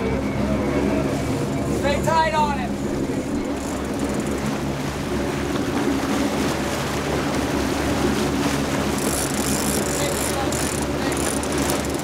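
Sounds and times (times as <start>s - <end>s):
boat engine running: 0.0s - 12.0s
open-water noise: 0.0s - 12.0s
wind: 0.0s - 12.0s.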